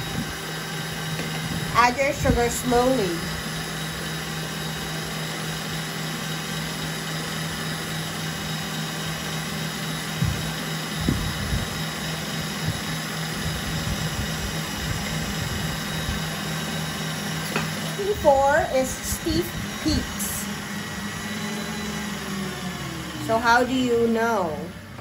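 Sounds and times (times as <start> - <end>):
stand mixer whirring: 0.0 - 25.0.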